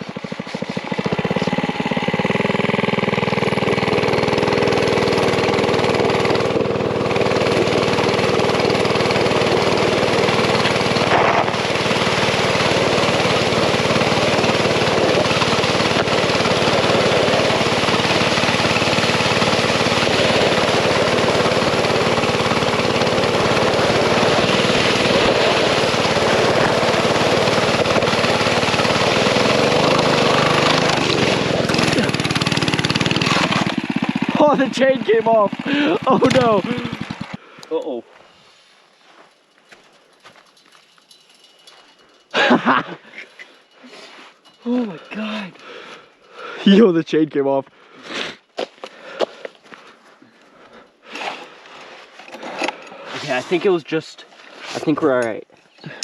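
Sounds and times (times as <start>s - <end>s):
mini bike engine revving: 0.0s - 38.0s, 42.2s - 44.0s, 44.6s - 46.8s, 52.2s - 56.0s.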